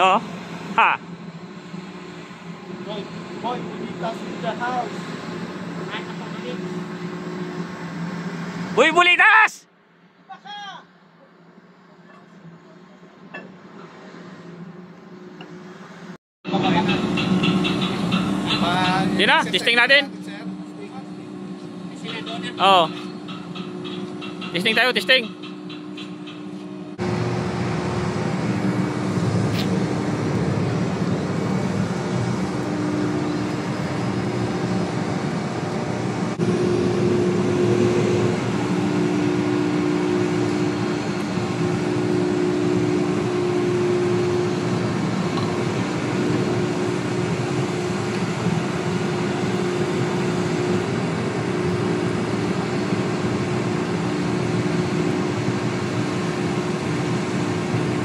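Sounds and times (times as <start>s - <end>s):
crane machinery drone: 0.0s - 58.0s.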